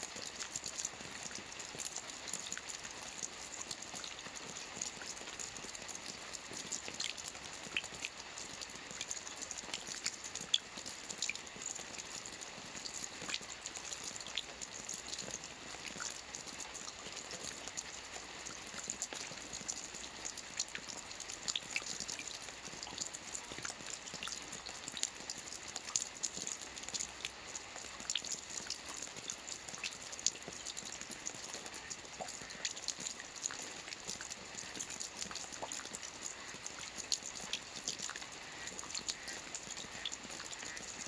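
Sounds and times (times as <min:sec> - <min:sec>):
soft rain on a roof: 0:00.0 - 0:41.0.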